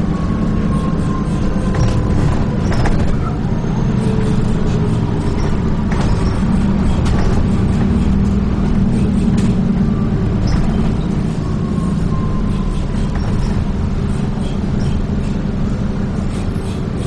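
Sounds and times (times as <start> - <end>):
bus body knocking and rattling: 0.0 - 17.0
bus engine running: 0.0 - 17.0
road noise: 0.0 - 17.0.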